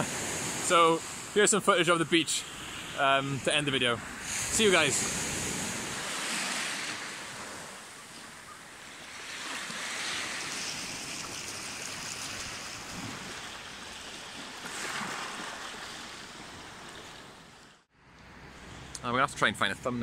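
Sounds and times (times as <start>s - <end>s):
waves washing onto a stony beach: 0.0s - 17.6s.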